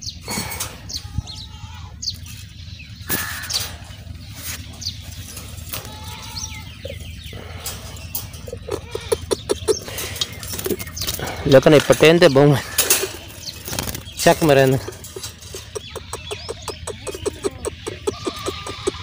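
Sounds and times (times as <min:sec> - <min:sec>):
wire birdcage clicking and rattling: 0:00.3 - 0:01.0, 0:03.1 - 0:19.0.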